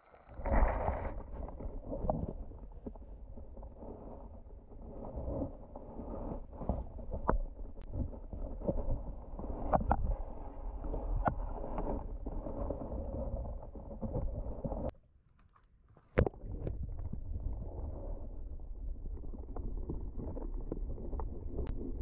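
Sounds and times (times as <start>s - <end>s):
underwater rumble of moving water: 0.0s - 14.9s, 16.2s - 22.0s.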